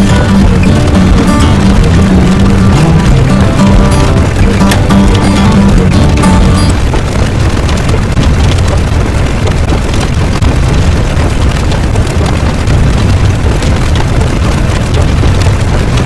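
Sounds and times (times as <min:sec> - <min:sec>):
low rumbling roar: 0:00.0 - 0:16.0
noisy hiss: 0:00.0 - 0:16.0.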